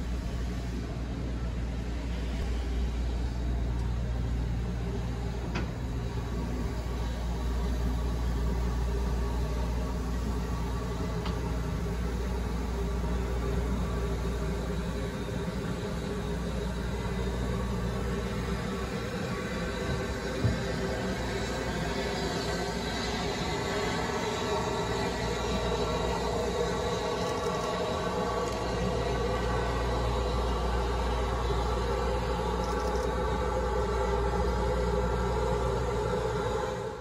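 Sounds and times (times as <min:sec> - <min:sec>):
diesel locomotive engine idling: 0:00.0 - 0:37.0.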